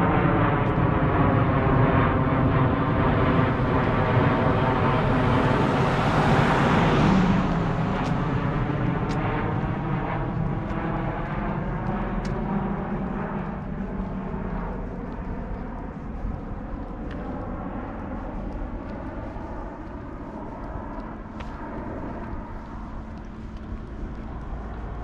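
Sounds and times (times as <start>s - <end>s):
distant engine hum: 0.0s - 25.0s.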